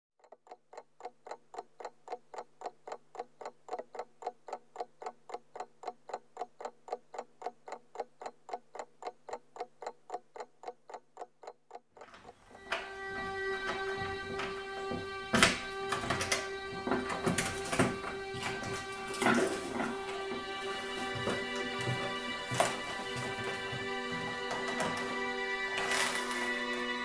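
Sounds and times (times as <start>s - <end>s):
rapid even ticking: 0.2s - 27.0s.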